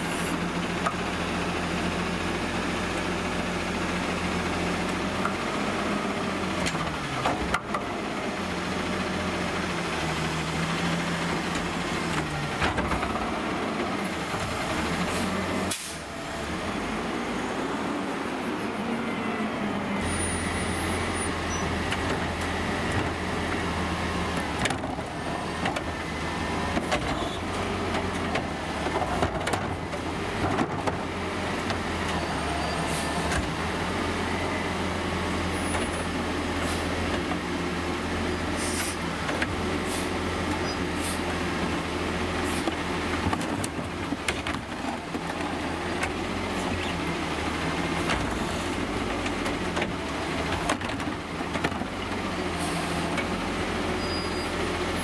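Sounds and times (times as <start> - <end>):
garbage truck engine droning: 0.0 - 55.0.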